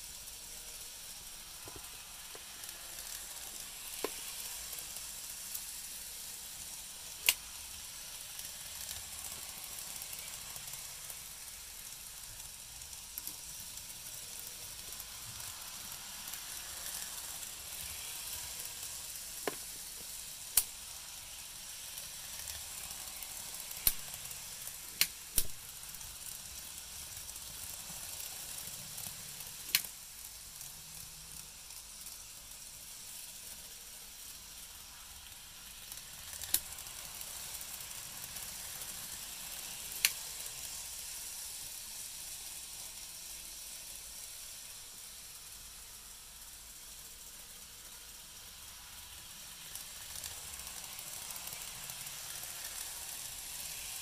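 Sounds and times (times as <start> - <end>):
model train motors whirring: 0.0 - 54.0.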